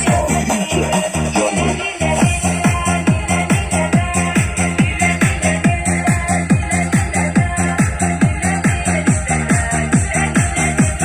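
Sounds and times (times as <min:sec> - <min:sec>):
electronic dance music: 0:00.0 - 0:11.0
fast kick drum beat: 0:00.0 - 0:11.0
synth bass: 0:00.0 - 0:11.0.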